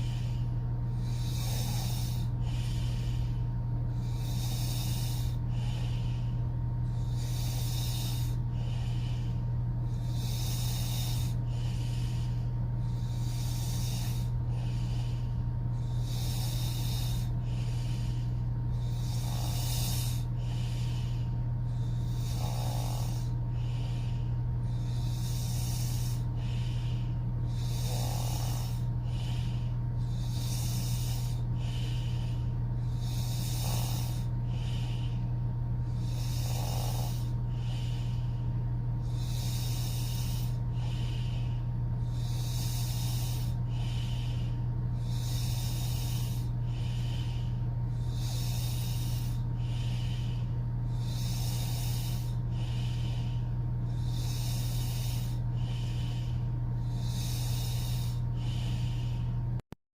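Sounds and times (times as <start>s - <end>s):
steady low hum: 0.0s - 59.7s
woman snoring: 0.0s - 59.7s.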